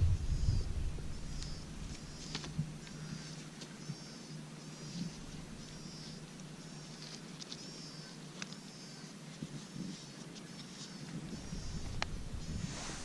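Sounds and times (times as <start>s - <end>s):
bird chirping: 0.0s - 12.6s.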